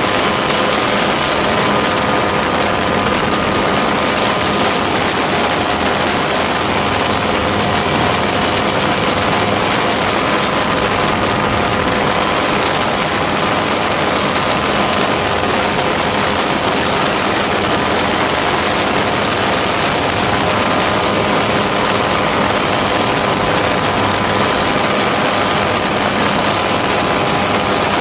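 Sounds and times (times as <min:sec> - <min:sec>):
two-stroke aircraft engine: 0:00.0 - 0:28.0.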